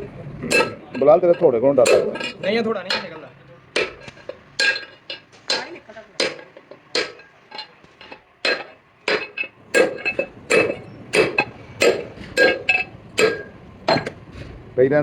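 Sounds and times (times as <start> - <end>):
hammer striking steel: 0.4 - 14.3.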